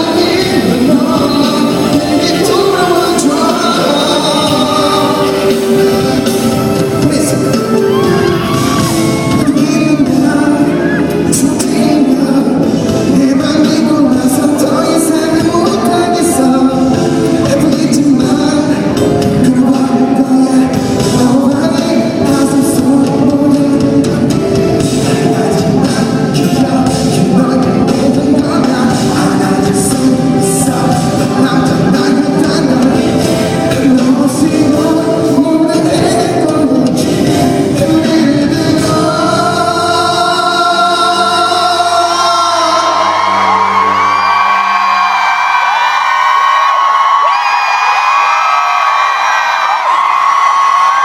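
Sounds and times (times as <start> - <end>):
man singing: 0.0 - 44.0
live pop band playing: 0.0 - 51.0.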